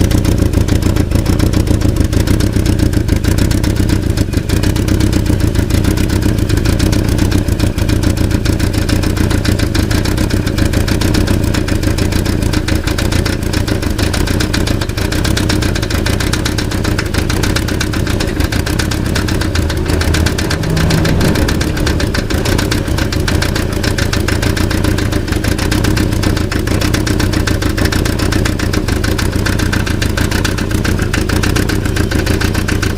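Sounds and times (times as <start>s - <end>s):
car engine idling: 0.0s - 32.9s
fast continuous rattle: 0.0s - 32.9s.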